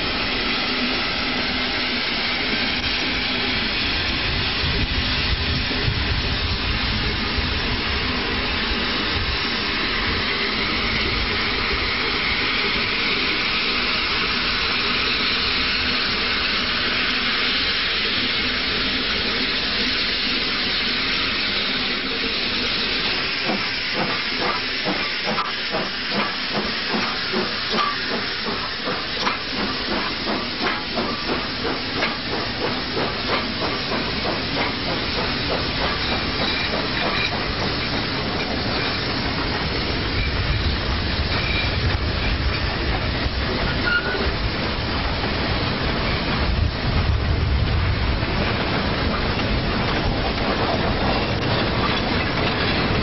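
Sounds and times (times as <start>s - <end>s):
locomotive chuffing: 0.0s - 53.0s
steam locomotive hissing: 0.0s - 53.0s.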